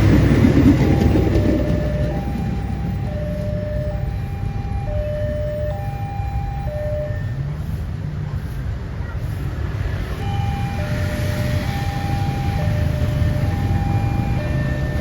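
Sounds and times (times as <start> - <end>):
level-crossing two-tone alarm: 0.0 - 7.5, 10.2 - 15.0
passing train rumble: 0.0 - 15.0.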